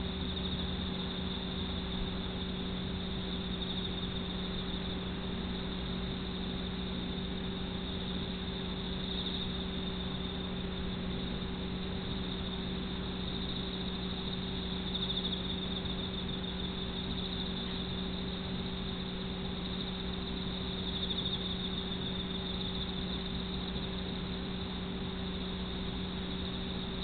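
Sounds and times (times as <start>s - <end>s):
low electrical hum with hiss: 0.0s - 27.0s.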